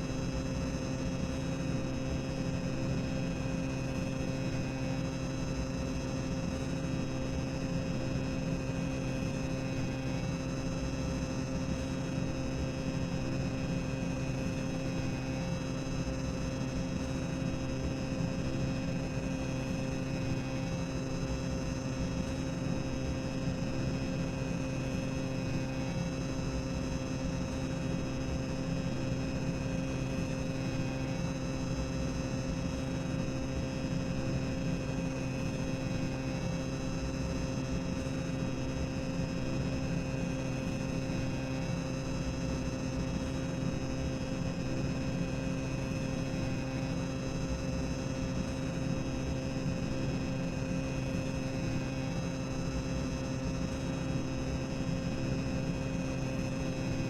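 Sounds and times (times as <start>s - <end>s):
steady hum of held tones: 0.0s - 57.0s.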